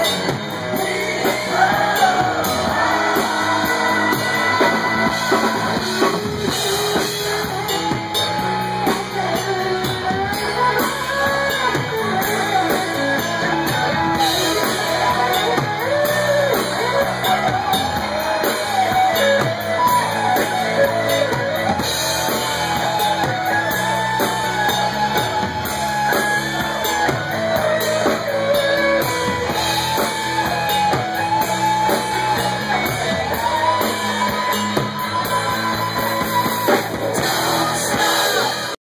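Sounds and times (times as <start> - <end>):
live rock band playing: 0.0 - 38.8.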